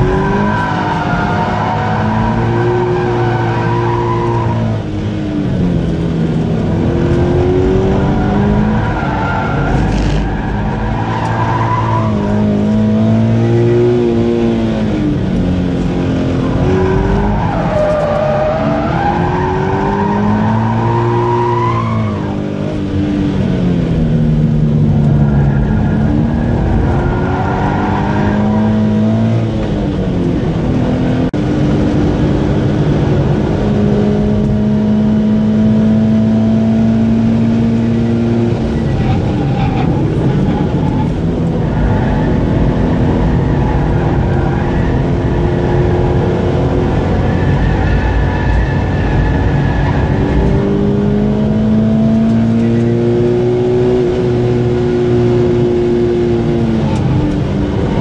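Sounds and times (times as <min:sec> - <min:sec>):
car engine accelerating: 0:00.0 - 0:58.0
road and tyre noise: 0:00.0 - 0:58.0.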